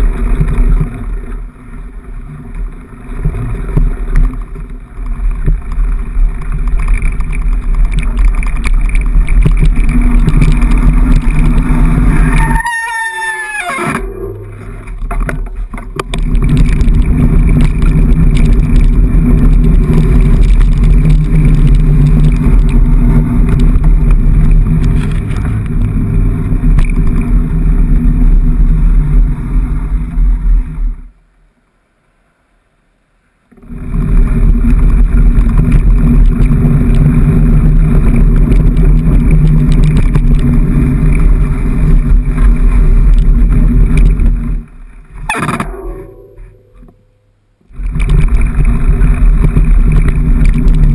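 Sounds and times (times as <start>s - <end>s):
bike rattling: 0.0s - 31.1s, 33.6s - 50.9s
tyres rumbling on path: 0.0s - 31.3s, 33.4s - 50.9s
wind on microphone: 5.3s - 31.0s, 33.6s - 46.9s, 47.7s - 50.9s.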